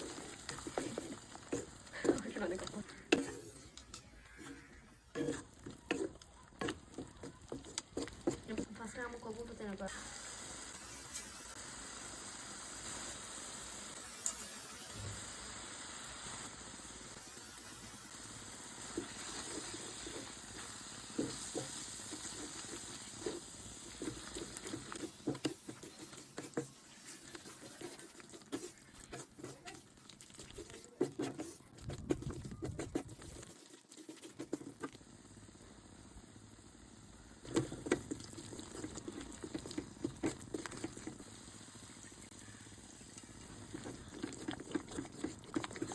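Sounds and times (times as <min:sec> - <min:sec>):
curry sizzling in a pan: 0:00.0 - 0:45.9.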